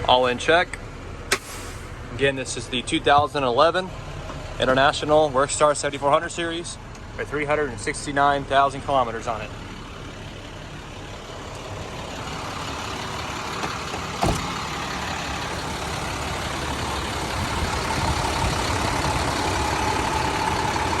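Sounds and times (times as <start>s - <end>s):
diesel truck driving: 0.0s - 21.0s.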